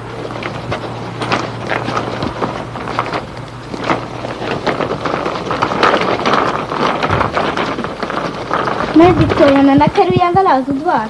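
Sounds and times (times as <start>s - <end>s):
stroller wheels rolling and rattling: 0.0s - 11.0s.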